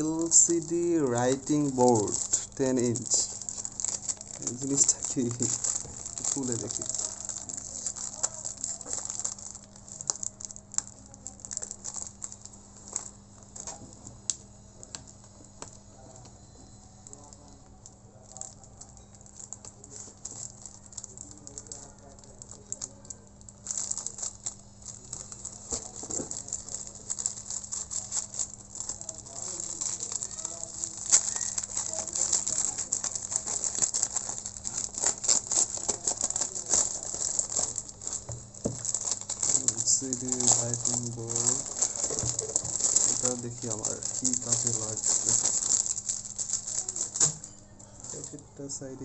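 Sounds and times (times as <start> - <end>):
plastic bag crinkling: 0.0 - 16.1, 17.0 - 48.9.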